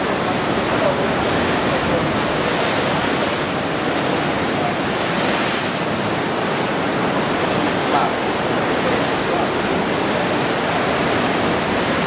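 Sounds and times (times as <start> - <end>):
surf breaking against rocks: 0.0 - 12.0.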